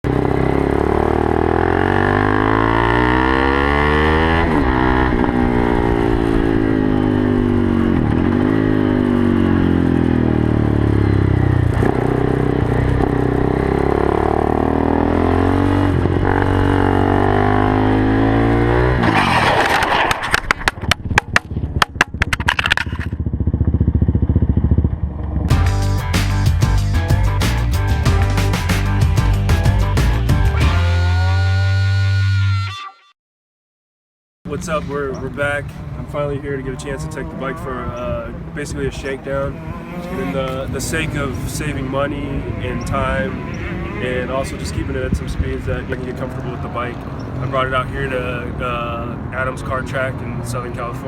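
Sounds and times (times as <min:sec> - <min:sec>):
motorcycle engine revving: 0:00.0 - 0:32.2, 0:34.5 - 0:51.0.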